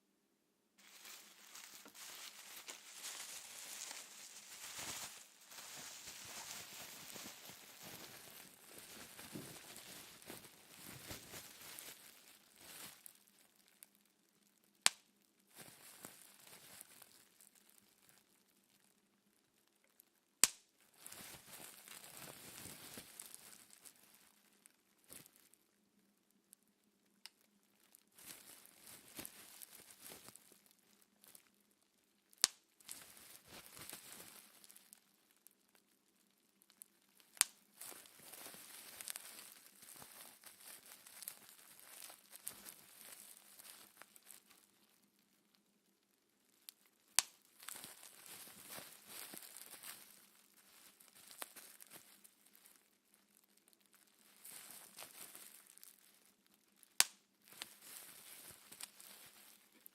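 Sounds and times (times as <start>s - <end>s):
bubble wrap popping: 0.8s - 18.9s, 19.6s - 26.4s, 27.1s - 59.9s
bubble wrap crinkling: 0.8s - 59.9s.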